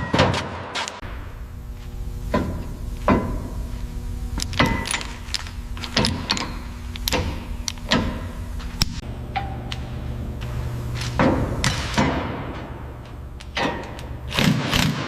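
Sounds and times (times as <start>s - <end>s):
steady low hum: 0.5s - 15.0s.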